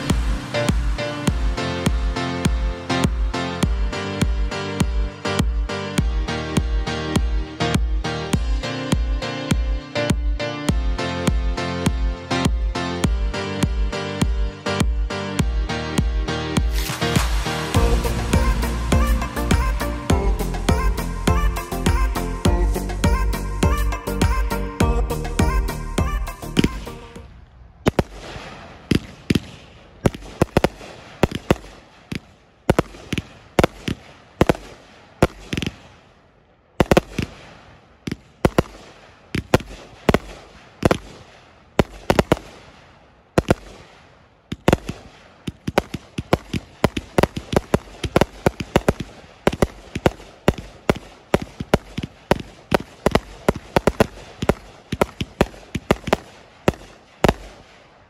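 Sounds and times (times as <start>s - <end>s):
fireworks shots and air bursts: 0.0s - 58.0s.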